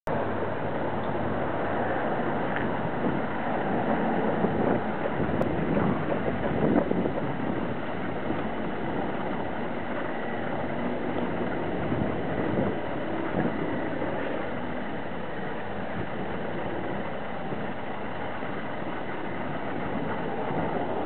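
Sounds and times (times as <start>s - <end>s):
wind buffeting microphone: 0.1s - 21.0s.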